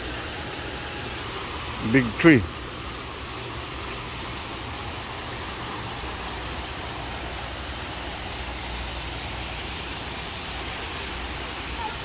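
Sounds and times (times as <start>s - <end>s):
low steady hum: 0.0s - 12.0s
waterfall pouring into pond: 0.0s - 12.0s.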